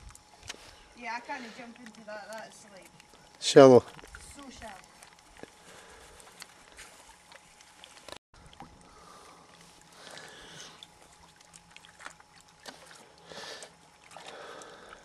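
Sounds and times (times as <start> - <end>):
water lapping and splashing: 0.0 - 15.0.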